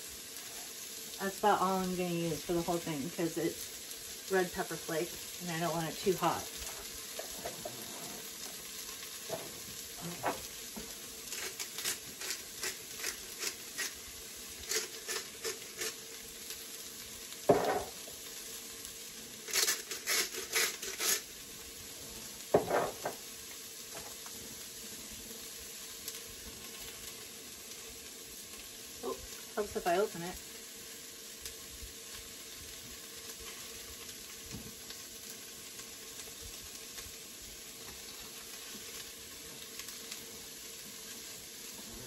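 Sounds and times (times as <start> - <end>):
vegetables sizzling in a pot: 0.0 - 42.0.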